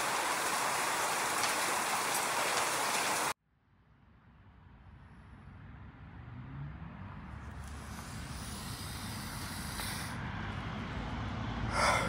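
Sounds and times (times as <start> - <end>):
road traffic passing: 0.0 - 3.4, 4.3 - 12.0.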